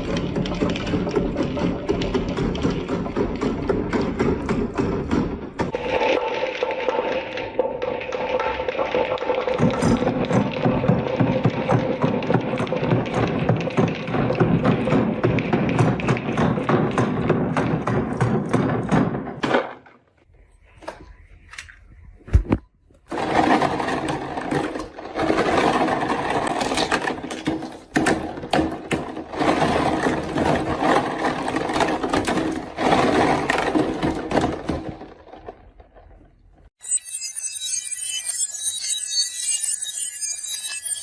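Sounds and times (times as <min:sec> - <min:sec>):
marbles rolling down wooden run: 0:00.0 - 0:19.8, 0:23.1 - 0:36.2.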